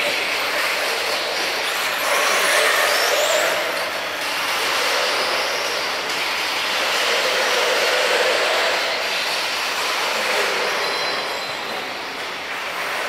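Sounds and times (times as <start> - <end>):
rc car electric motors whining: 0.0 - 13.0.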